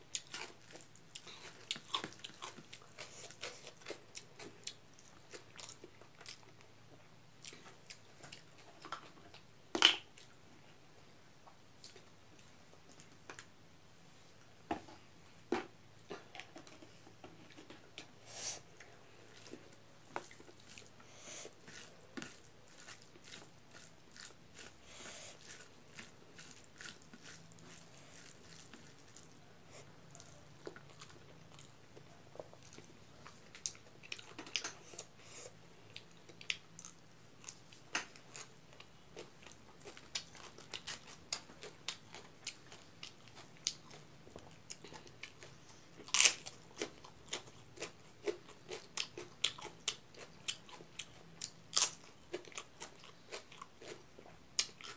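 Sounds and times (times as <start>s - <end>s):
chewing and crunching food: 0.0s - 10.4s, 11.4s - 13.5s, 14.4s - 54.9s.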